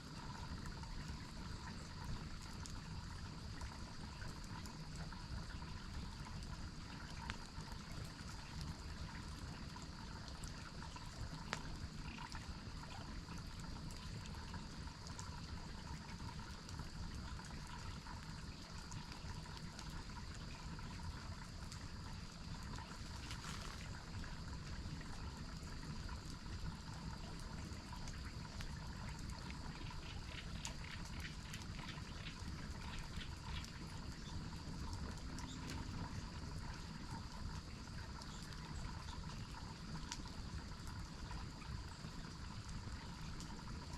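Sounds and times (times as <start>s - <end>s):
waterfall running water: 0.0s - 43.9s.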